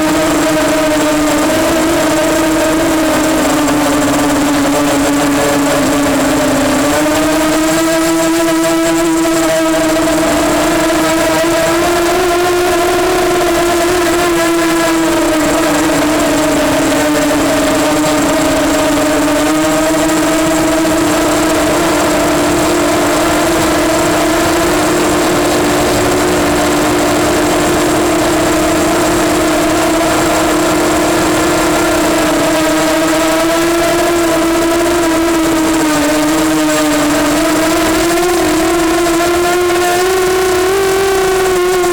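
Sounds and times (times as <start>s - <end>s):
quadcopter motors humming: 0.0s - 41.9s.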